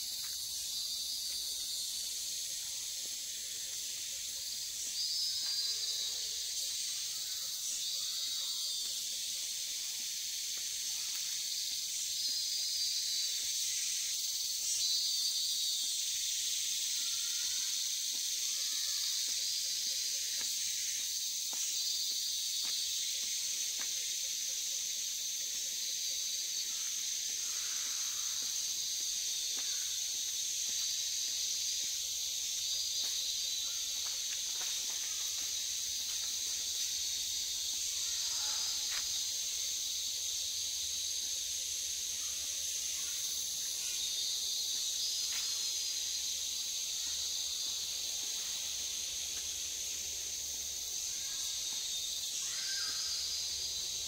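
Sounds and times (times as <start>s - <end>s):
insect chorus shrill drone: 0.0s - 54.0s
wavering insect trill: 0.0s - 54.0s.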